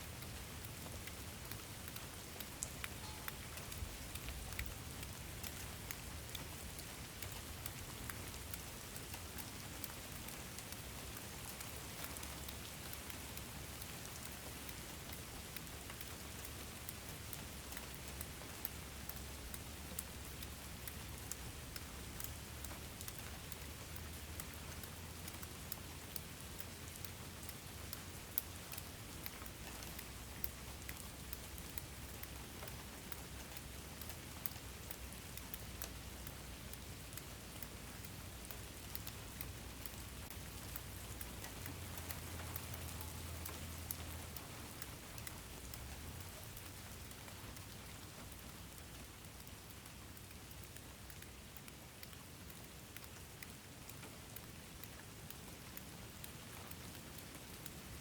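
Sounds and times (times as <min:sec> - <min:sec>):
rain falling on a surface: 0:00.0 - 0:58.0.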